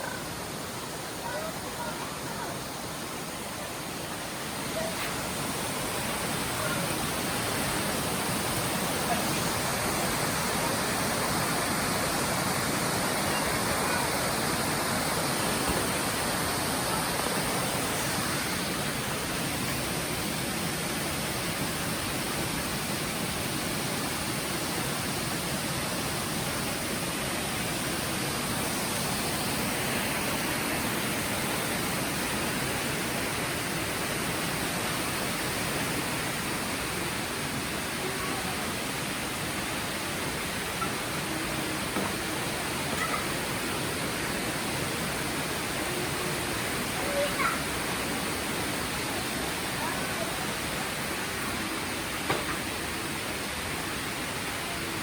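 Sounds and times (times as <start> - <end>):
rain falling in forest: 0.0 - 55.0.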